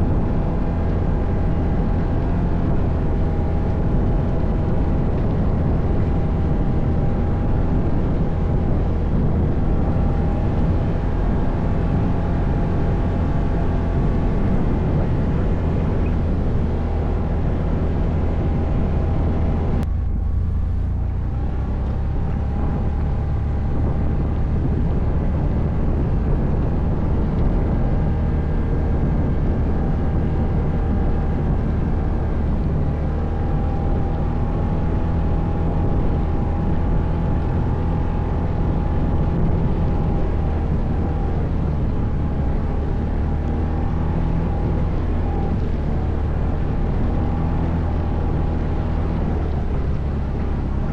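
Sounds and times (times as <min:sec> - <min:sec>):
atv engine droning: 0:00.0 - 0:50.9.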